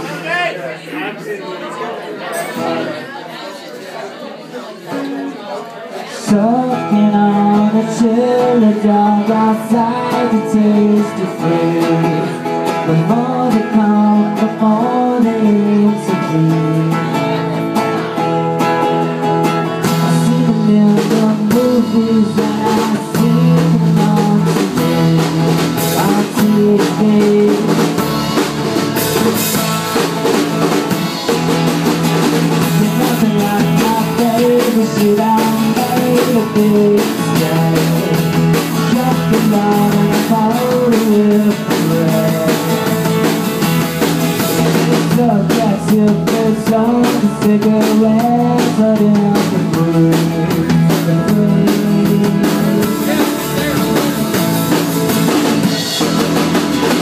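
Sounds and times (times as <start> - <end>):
acoustic guitars strummed: 2.2 - 3.2, 4.8 - 57.0
drum kit: 6.4 - 57.0.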